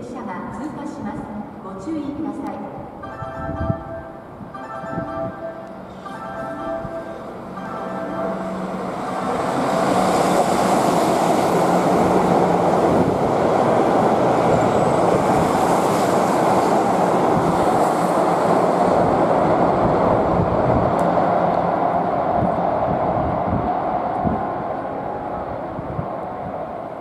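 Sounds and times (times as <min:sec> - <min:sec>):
electric train passing: 0:02.8 - 0:27.0.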